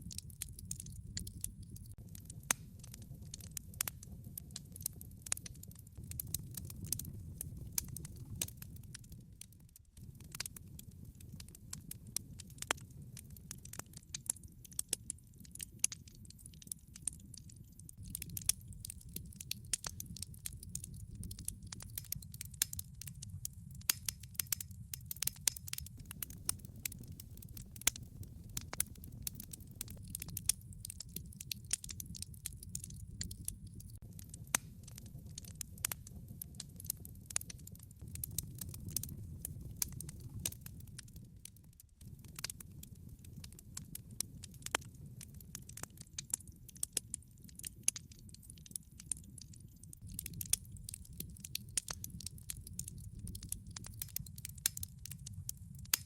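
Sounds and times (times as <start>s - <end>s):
low rumble of burning logs: 0.0s - 56.0s
sharp pops and snaps: 0.0s - 56.0s
wood fire crackling: 0.0s - 56.0s.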